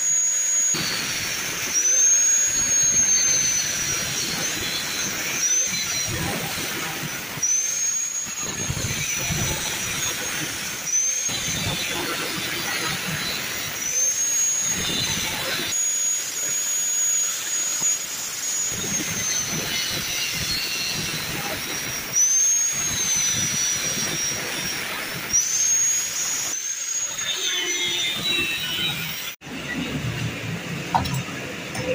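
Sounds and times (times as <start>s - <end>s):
angle grinder cutting steel: 0.0s - 29.4s.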